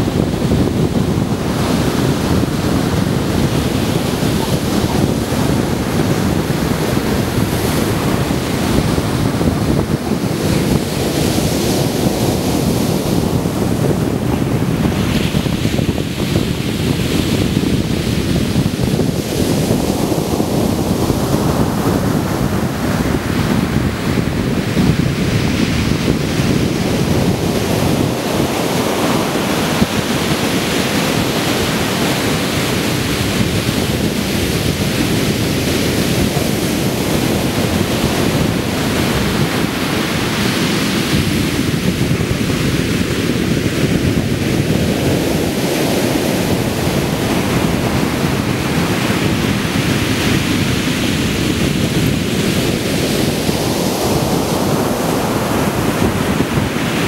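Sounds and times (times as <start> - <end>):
surf breaking on beach: 0.0 - 57.0.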